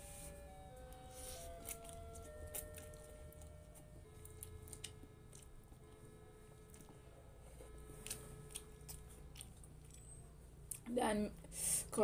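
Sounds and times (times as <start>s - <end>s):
squishy chewing of noodles: 1.1s - 10.8s.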